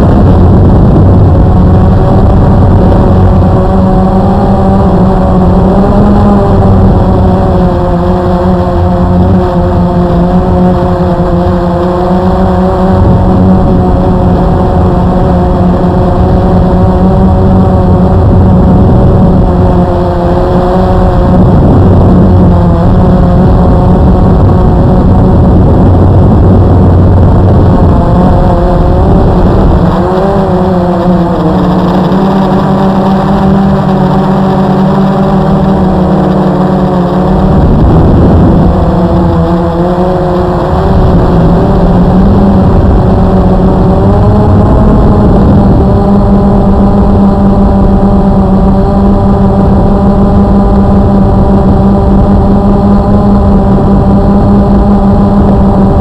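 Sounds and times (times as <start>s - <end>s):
quadcopter propellers buzzing: 0.0s - 56.0s.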